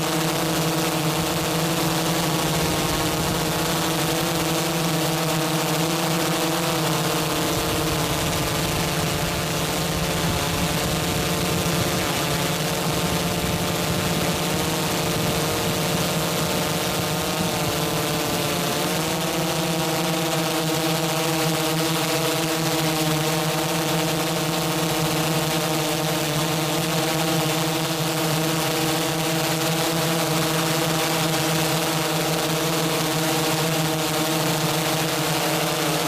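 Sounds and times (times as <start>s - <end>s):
drone motors humming: 0.1s - 36.0s.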